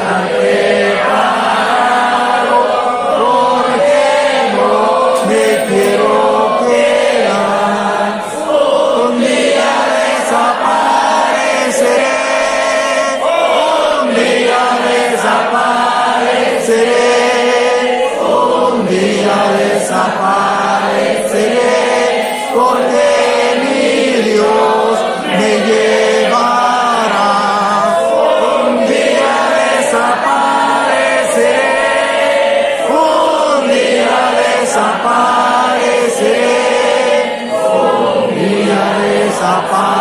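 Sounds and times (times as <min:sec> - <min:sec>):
congregation singing a hymn: 0:00.0 - 0:40.0.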